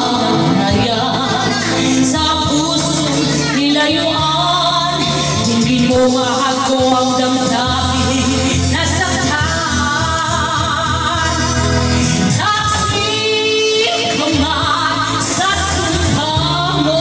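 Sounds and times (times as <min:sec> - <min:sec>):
backing track with bass line: 0:00.0 - 0:17.0
woman singing into microphone: 0:00.0 - 0:17.0.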